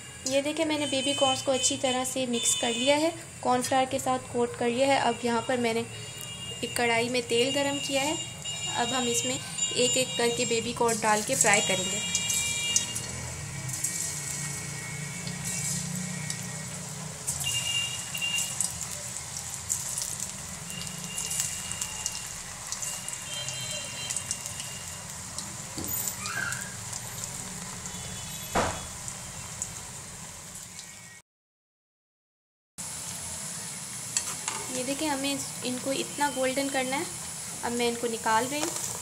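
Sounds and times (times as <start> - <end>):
food deep-frying in oil: 0.0 - 31.2, 32.8 - 39.0.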